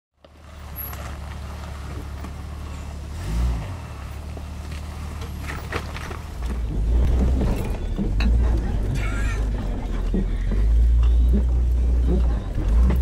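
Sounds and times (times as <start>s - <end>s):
engine running and revving: 0.2s - 13.0s.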